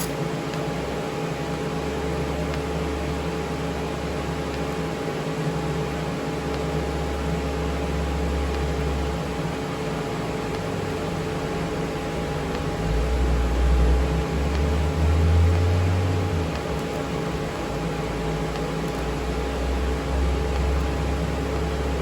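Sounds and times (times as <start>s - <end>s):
fan noise: 0.0s - 22.0s
welder electrical hum: 0.0s - 22.0s.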